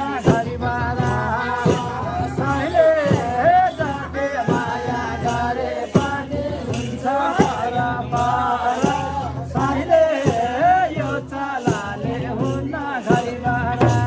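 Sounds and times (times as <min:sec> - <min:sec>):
drum strokes: 0:00.0 - 0:14.0
jingling percussion: 0:00.0 - 0:14.0
people singing folk song: 0:00.0 - 0:14.0.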